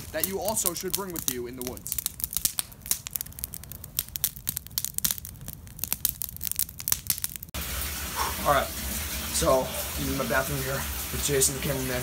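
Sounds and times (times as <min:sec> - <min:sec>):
wood fire crackling and popping: 0:00.0 - 0:11.9.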